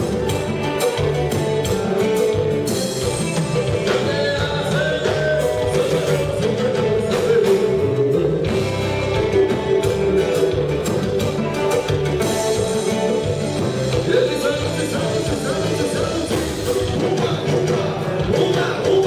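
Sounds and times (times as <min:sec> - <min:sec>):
live band playing: 0:00.0 - 0:19.0
man singing: 0:00.9 - 0:19.0.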